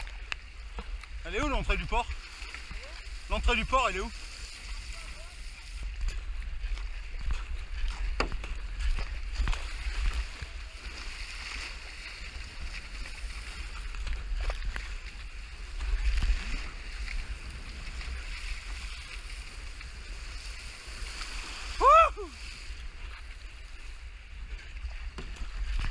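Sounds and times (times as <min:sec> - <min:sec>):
choppy water rushing: 0:00.0 - 0:25.9
paddle and wave splashes: 0:00.0 - 0:25.9
wind buffeting microphone: 0:00.7 - 0:25.9.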